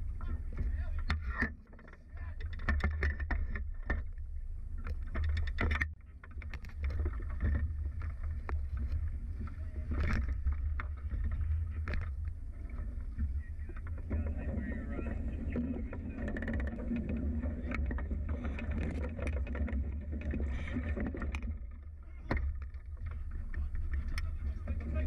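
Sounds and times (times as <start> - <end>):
steady low rumble: 3.6 - 25.0.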